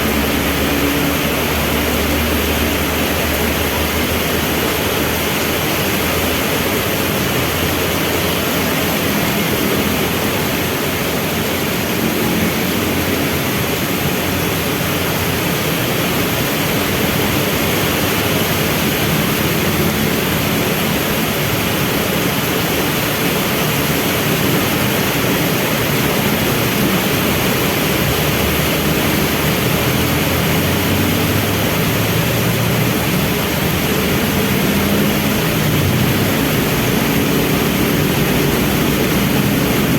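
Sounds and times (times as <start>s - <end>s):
heavy rain: 0.0s - 39.9s
vehicle engines idling: 0.0s - 39.9s.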